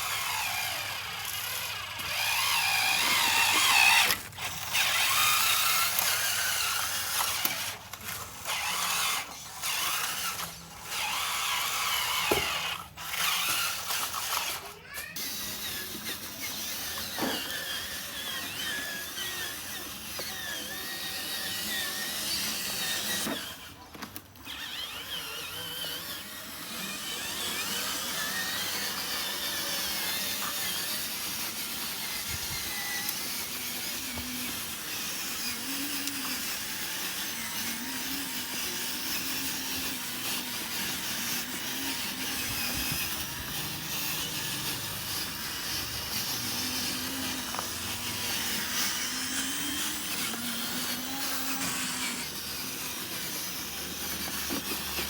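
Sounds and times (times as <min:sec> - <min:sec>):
electric motors whining: 0:00.0 - 0:55.0.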